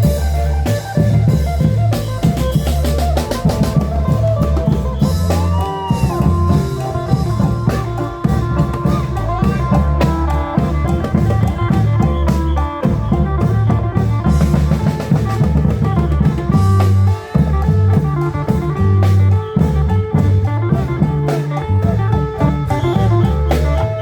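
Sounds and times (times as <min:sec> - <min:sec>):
driving drum beat: 0:00.0 - 0:24.0
held bass notes: 0:00.0 - 0:24.0
melody instruments: 0:00.0 - 0:24.0.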